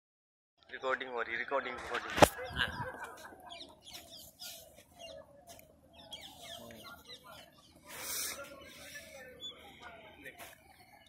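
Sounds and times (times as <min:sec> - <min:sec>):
gulls squawking: 0:00.8 - 0:11.0.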